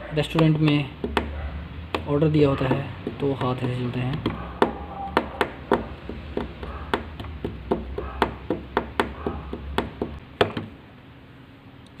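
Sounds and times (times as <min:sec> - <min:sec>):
fingers drumming on a tabletop: 0:00.3 - 0:01.3, 0:01.9 - 0:10.7.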